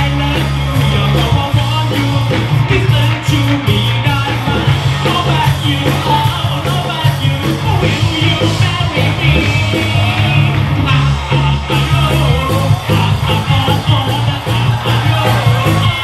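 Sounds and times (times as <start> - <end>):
heavy bass line: 0.0 - 16.0
live rock band playing: 0.0 - 16.0
man singing into a microphone: 0.0 - 16.0.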